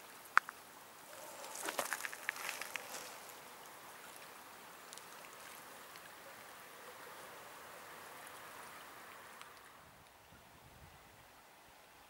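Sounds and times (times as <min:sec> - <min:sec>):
river water rushing: 0:00.0 - 0:09.9.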